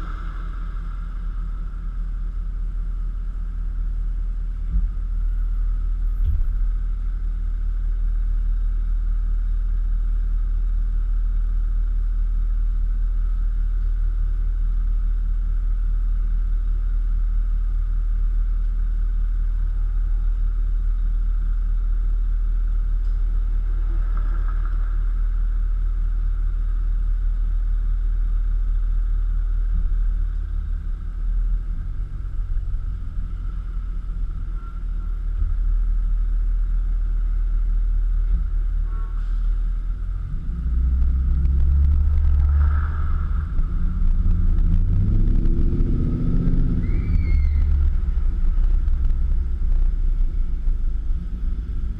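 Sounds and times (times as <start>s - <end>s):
car engine low rumble: 0.0s - 51.9s.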